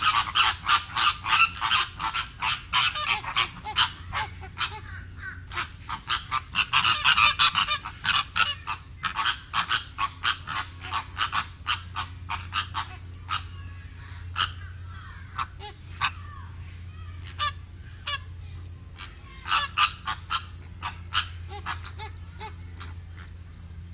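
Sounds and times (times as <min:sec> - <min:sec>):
geese honking: 0:00.0 - 0:16.4, 0:17.1 - 0:23.4
steady low hum: 0:00.0 - 0:23.9.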